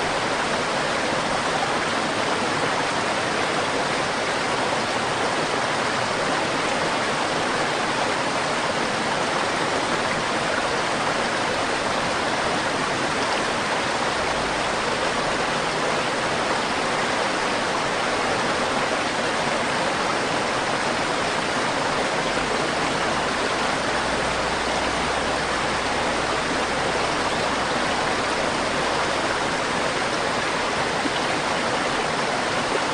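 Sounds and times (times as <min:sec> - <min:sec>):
river water rushing over stones: 0:00.0 - 0:32.9.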